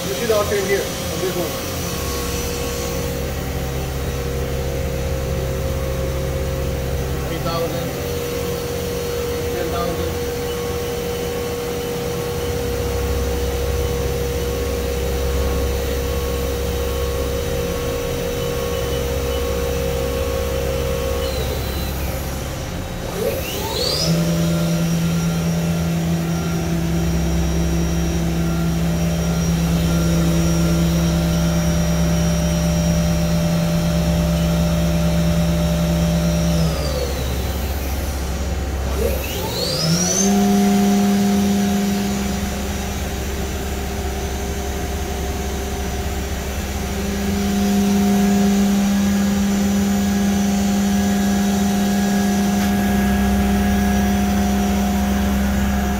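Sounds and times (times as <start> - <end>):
machine spindle whining: 0.0 - 55.9.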